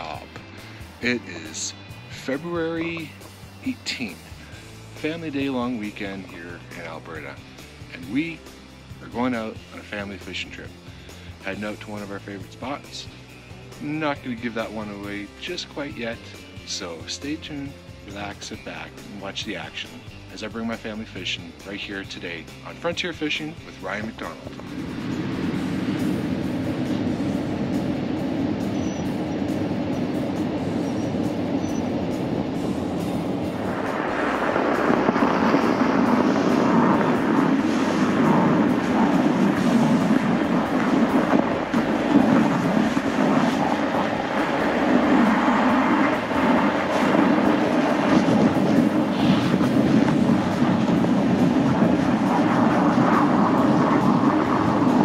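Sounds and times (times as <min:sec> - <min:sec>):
truck driving low rumble: 0:00.0 - 0:55.0.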